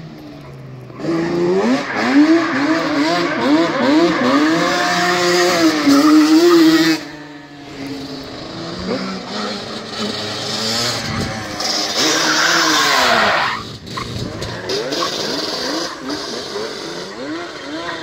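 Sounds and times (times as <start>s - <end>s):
two-stroke engine revving: 0.9s - 18.0s.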